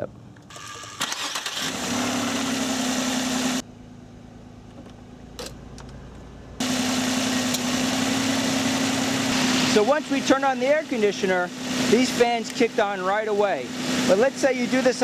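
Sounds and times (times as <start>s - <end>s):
car engine idling: 0.2s - 15.0s.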